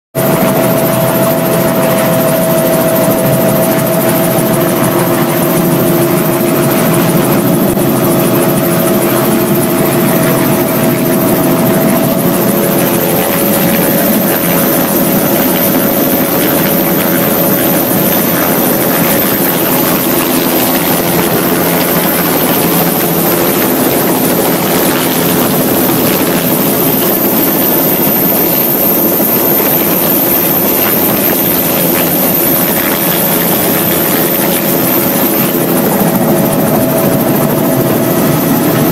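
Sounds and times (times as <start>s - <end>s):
helicopter engine roar: 0.2s - 38.9s
high turbine whine: 0.2s - 38.9s.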